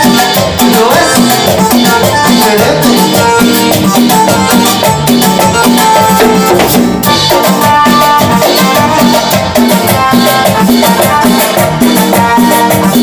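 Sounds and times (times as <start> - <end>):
latin percussion drums: 0.0 - 13.0
maracas: 0.0 - 13.0
salsa instrumental music: 0.0 - 13.0.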